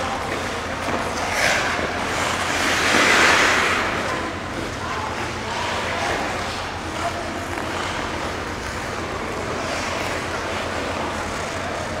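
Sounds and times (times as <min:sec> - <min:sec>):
ice rink hiss and rumble: 0:00.0 - 0:12.0
skate blades scraping ice: 0:00.3 - 0:04.7, 0:05.6 - 0:11.8.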